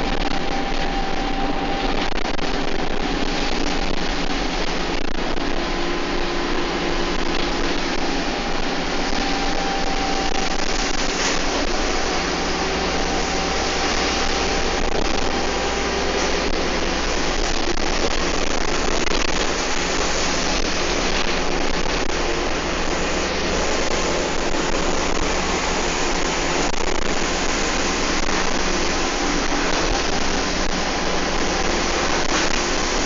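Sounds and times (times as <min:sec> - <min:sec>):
bus engine: 0:00.0 - 0:33.0
road noise: 0:00.0 - 0:33.0.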